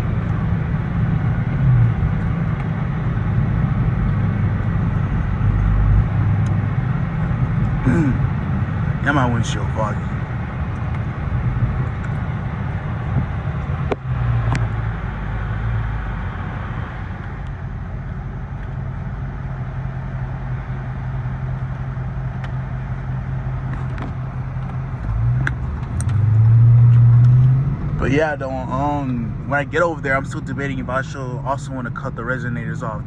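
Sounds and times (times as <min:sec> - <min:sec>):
car engine droning: 0:00.0 - 0:33.0
road noise: 0:00.0 - 0:33.0.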